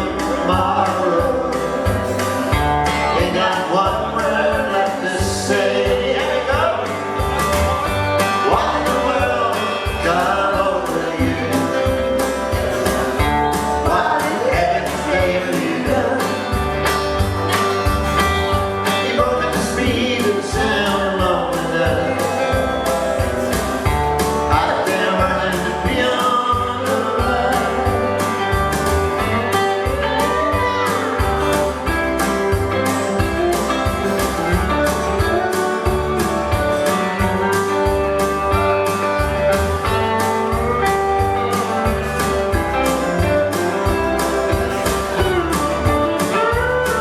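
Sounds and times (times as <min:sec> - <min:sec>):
live country music with singing: 0:00.0 - 0:47.0.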